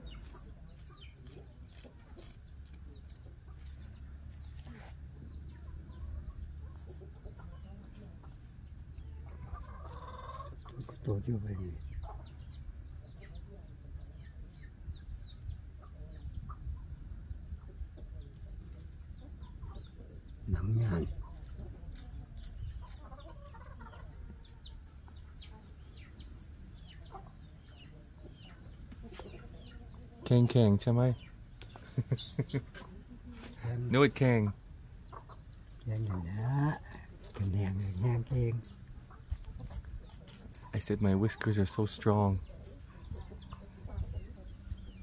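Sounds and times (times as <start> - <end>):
razor scraping stubble: 0.0 - 15.4, 17.8 - 32.6, 33.3 - 45.0
chickens clucking: 0.0 - 45.0.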